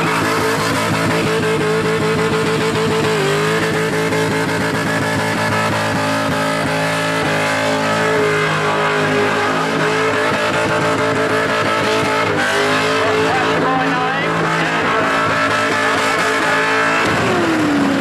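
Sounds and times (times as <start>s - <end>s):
car engine revving high: 0.0s - 18.0s.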